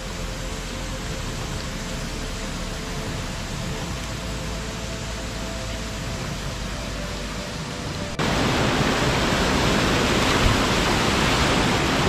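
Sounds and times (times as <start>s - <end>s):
river cascade rushing: 0.0s - 12.0s
steady hiss: 0.0s - 12.0s.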